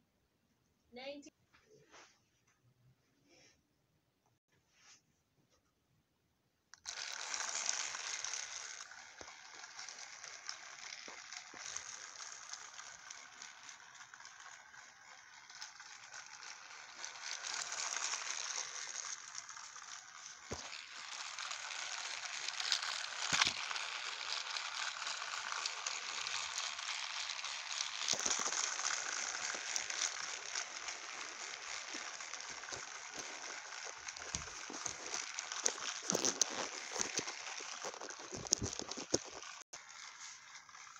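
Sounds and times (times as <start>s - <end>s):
toy engine rattling hiss: 6.8s - 40.9s.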